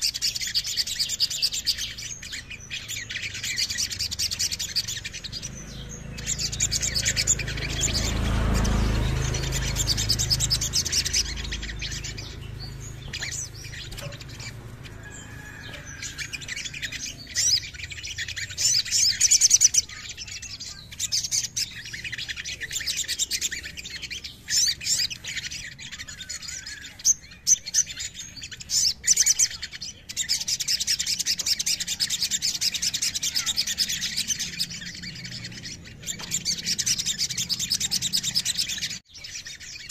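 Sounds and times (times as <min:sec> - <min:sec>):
sunbird chattering trills: 0:00.0 - 0:39.9.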